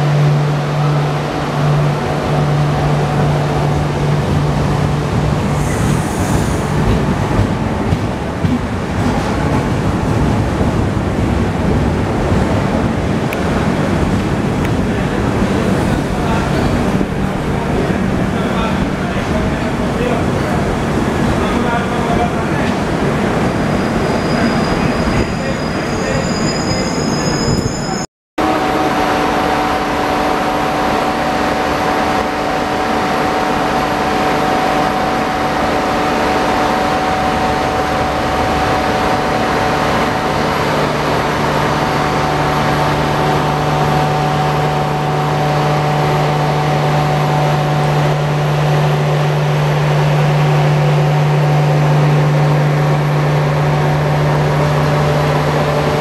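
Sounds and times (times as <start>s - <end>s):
train mechanical hum: 0.0s - 26.4s, 28.4s - 56.0s
thin high train whine: 0.0s - 56.0s
train rumbling past: 0.0s - 56.0s.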